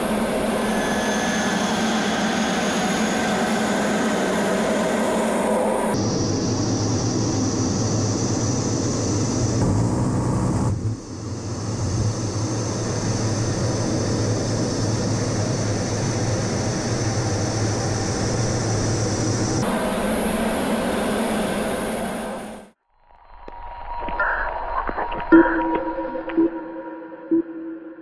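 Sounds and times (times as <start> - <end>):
jet engine hum with whine: 0.0 - 22.8.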